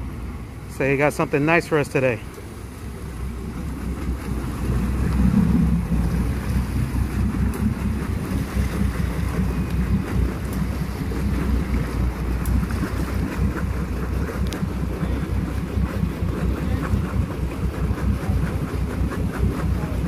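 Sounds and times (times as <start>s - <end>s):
boat engines idling: 0.0s - 20.0s
wind buffeting microphone: 2.6s - 20.0s.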